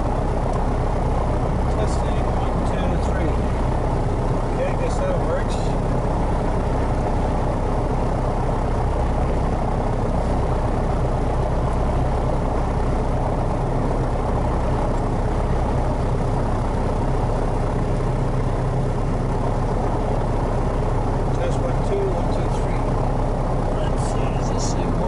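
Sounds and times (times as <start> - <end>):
aircraft engine idling: 0.0 - 25.0.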